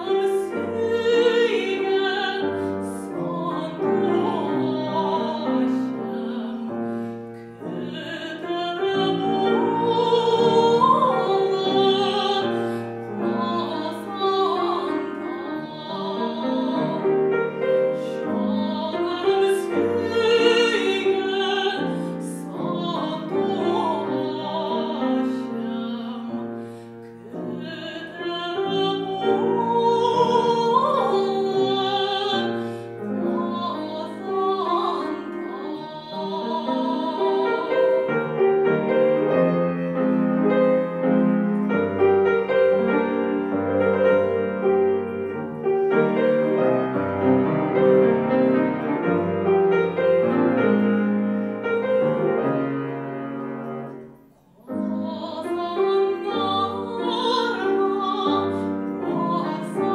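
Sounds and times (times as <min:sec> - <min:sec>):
grand piano accompaniment: 0:00.0 - 0:59.9
woman singing classical with vibrato: 0:00.0 - 0:59.9.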